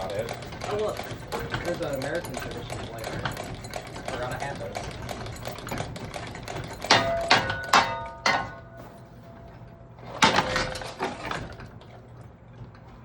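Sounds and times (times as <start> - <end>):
metal ceiling fan clanking: 0.0 - 12.2.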